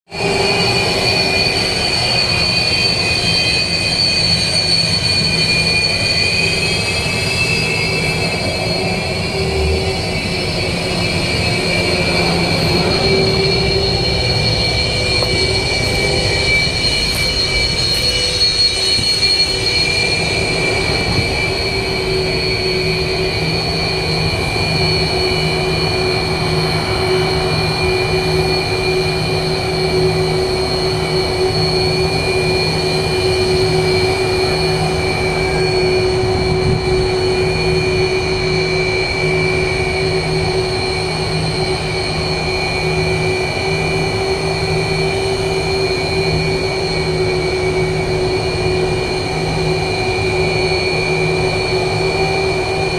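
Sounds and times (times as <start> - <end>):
jet engines whining: 0.1 - 52.9.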